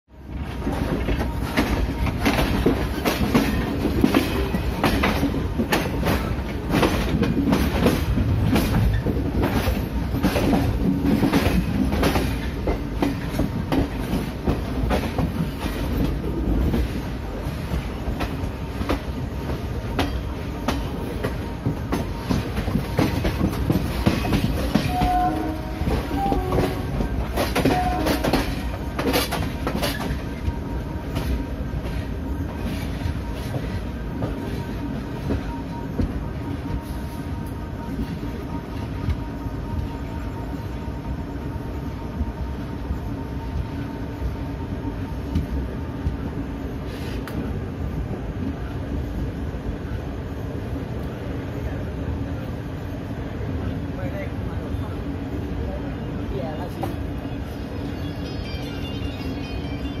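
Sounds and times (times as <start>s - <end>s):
train rumble: 0.1s - 60.0s.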